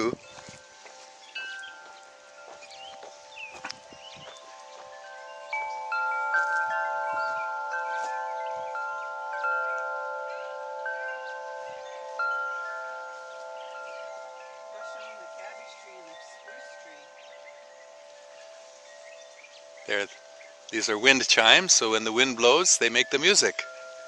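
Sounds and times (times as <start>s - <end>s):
wind chimes ringing: 0.0s - 24.0s.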